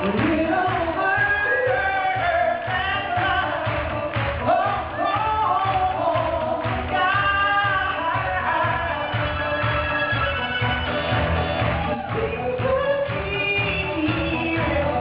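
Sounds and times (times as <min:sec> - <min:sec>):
live band music: 0:00.0 - 0:15.0
person singing: 0:00.0 - 0:15.0
steady drum beat: 0:00.0 - 0:15.0.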